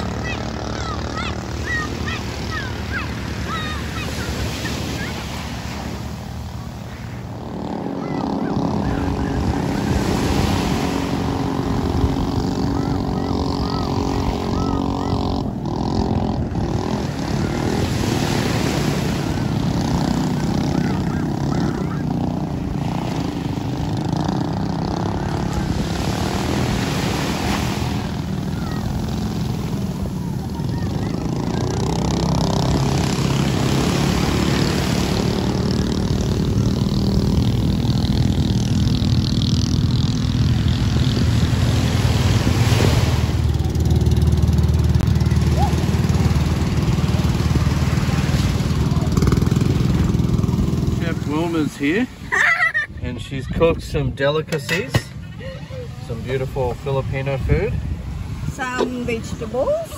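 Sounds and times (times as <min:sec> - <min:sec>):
speedboat engines droning: 0:00.0 - 0:59.9.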